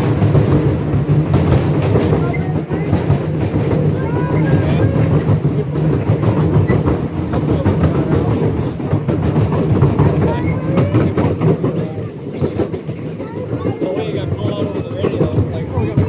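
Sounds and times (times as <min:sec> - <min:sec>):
train rumbling along track: 0:00.0 - 0:16.0
wheels clicking over rail joints: 0:00.0 - 0:16.0.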